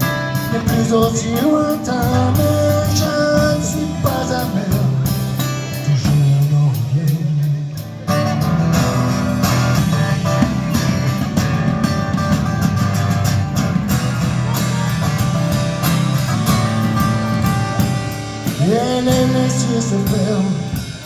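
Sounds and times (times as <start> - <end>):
guitar-led instrumental music: 0.0 - 21.0.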